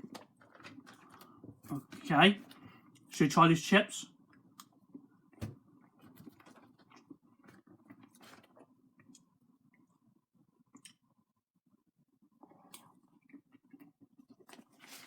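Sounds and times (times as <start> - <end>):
eating and handling fries: 0.0 - 15.0.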